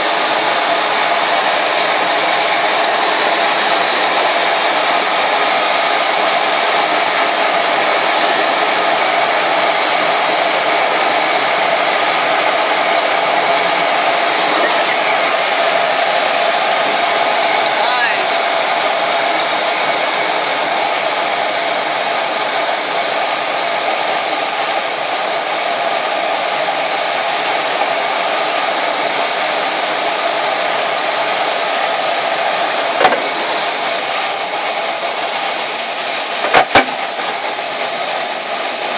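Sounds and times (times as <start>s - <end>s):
airflow rushing over canopy: 0.0s - 38.9s.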